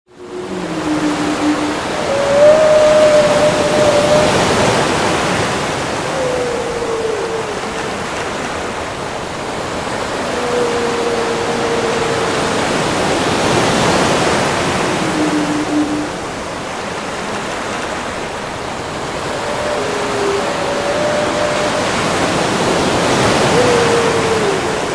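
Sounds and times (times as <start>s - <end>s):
whale song: 0.0s - 24.9s
ocean surf washing: 0.1s - 24.9s.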